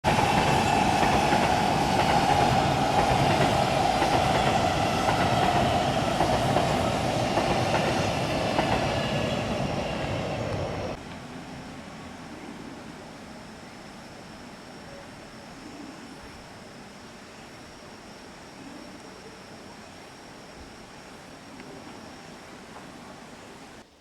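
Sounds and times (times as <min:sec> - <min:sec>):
train wheel and rail noise: 0:00.0 - 0:23.9.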